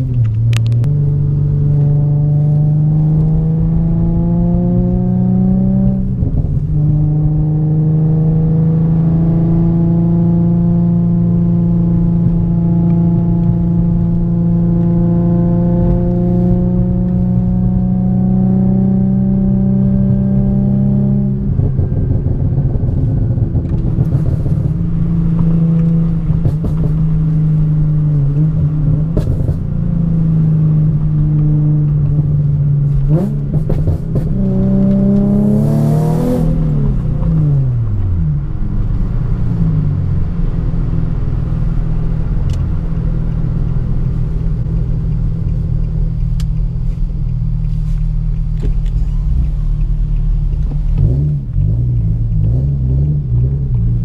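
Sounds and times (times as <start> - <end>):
car engine drone: 0.0 - 54.0
engine revving: 0.0 - 54.0.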